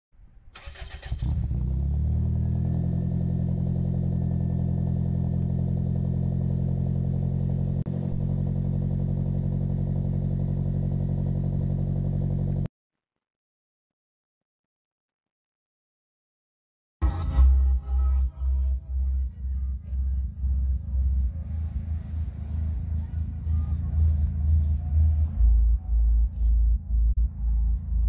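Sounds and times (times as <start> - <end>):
car engine idling: 0.5 - 12.7, 17.0 - 28.0.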